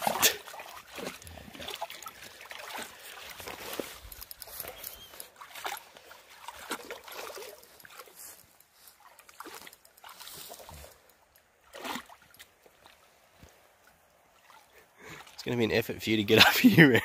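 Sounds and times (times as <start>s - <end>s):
water splashing: 0.0s - 16.4s.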